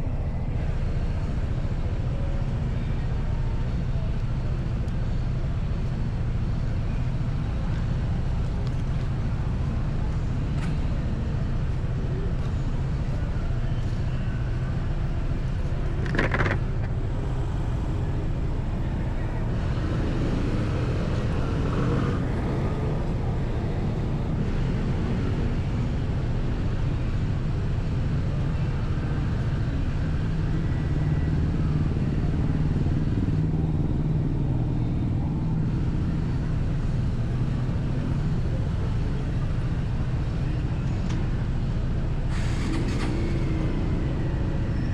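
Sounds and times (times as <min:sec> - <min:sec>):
motorcycle engine rumble: 0:00.0 - 0:44.9
road noise: 0:00.0 - 0:44.9.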